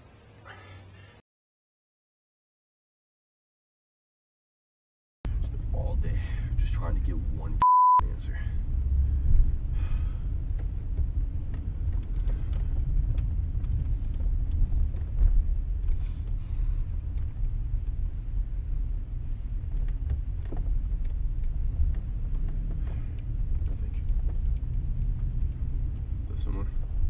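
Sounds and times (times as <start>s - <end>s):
minivan driving rumble: 5.3s - 27.0s.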